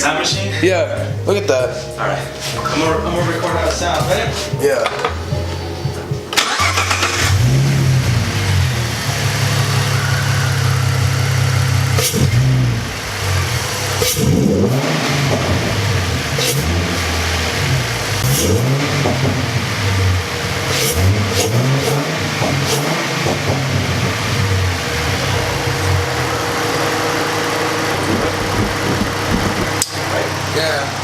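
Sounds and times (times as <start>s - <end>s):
car engine idling and revving: 1.9s - 31.0s.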